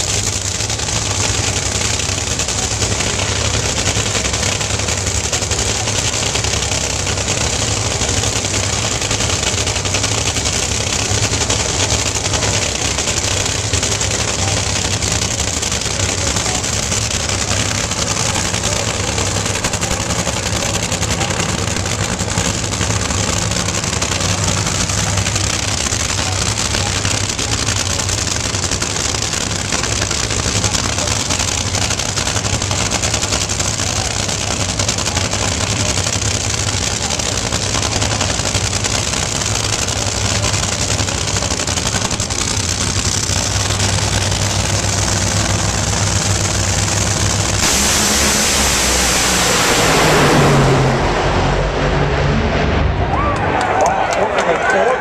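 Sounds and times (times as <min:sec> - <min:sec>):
crackling engines idling: 0:00.0 - 0:55.0.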